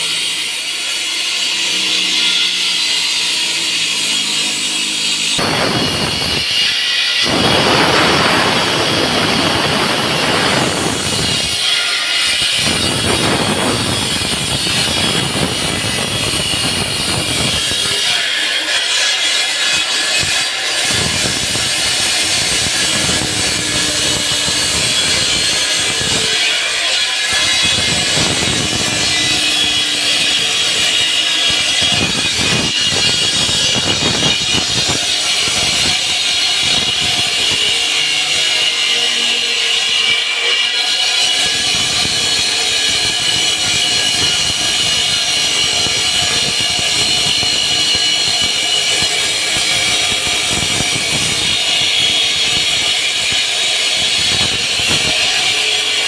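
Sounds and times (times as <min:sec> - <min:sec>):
concrete saw grinding whine: 0:00.0 - 0:56.0.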